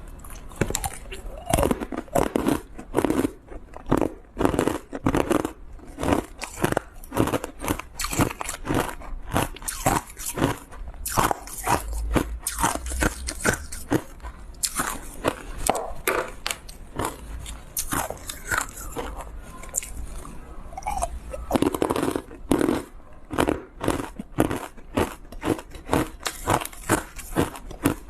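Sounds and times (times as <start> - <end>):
ice being crunched by teeth: 0.6 - 17.2, 17.8 - 20.0, 20.8 - 28.0.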